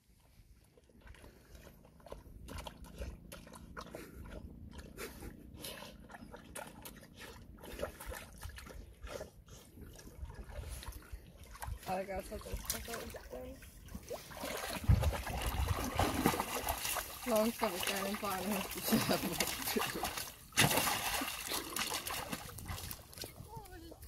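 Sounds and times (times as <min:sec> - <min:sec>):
dog lapping water: 0:00.0 - 0:24.0
dogs splashing in water: 0:00.7 - 0:24.0.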